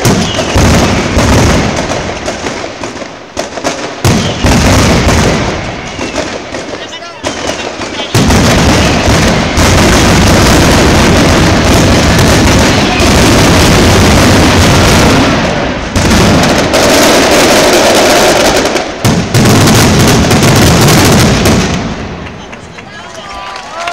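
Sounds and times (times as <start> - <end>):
firecracker barrage: 0.0 - 23.9.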